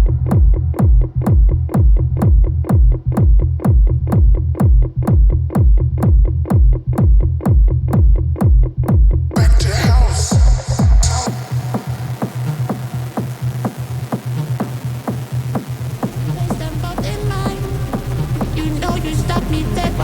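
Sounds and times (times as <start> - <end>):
house music: 0.0 - 20.0.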